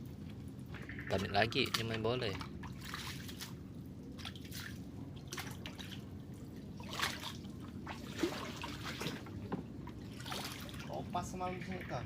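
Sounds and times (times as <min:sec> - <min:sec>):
steady low hum: 0:00.0 - 0:12.0
water dripping and trickling: 0:00.0 - 0:12.0
small water splashes: 0:00.8 - 0:11.2.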